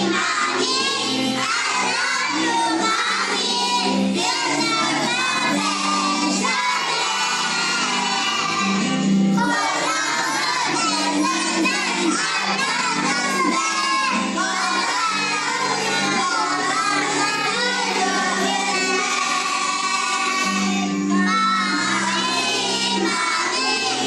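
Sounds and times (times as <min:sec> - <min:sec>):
backing music: 0:00.0 - 0:24.0
children singing: 0:00.0 - 0:24.0.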